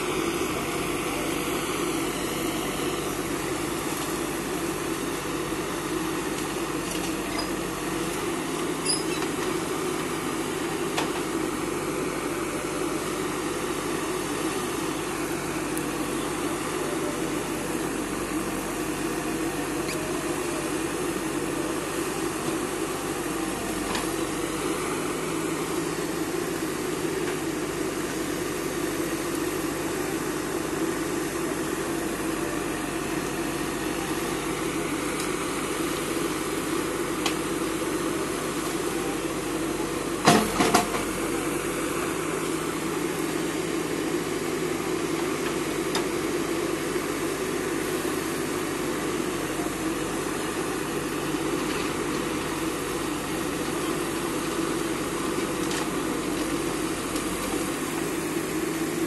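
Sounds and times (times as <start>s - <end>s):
backhoe loader diesel engine running: 0.0s - 59.0s
tractor engine running: 0.0s - 59.0s.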